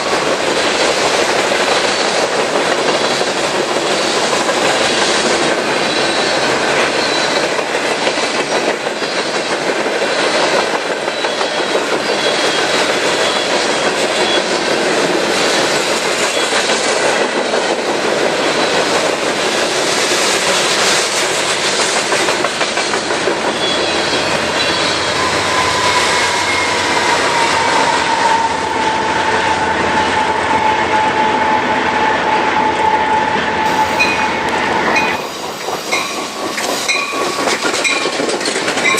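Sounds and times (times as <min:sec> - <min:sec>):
train wheels clacking over rail joints: 0:00.0 - 0:31.5, 0:32.4 - 0:38.9
train wheel squeal: 0:00.0 - 0:38.9.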